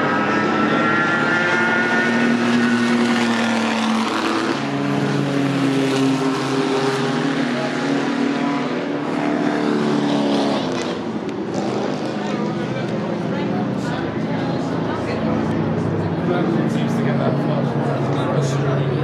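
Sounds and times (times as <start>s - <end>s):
racing car engines passing: 0.0s - 19.0s.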